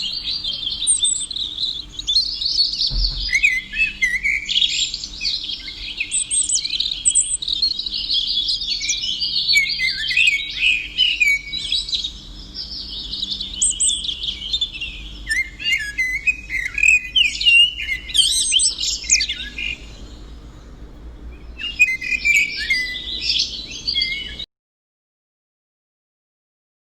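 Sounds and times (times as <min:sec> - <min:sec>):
songbird chirping and trilling: 0:00.0 - 0:24.5.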